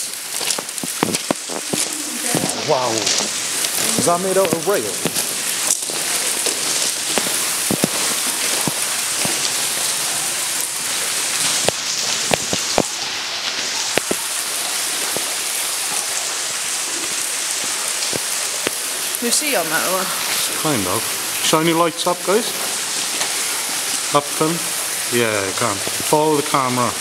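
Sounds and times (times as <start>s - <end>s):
water dripping: 0.0s - 27.0s
water running: 0.0s - 27.0s.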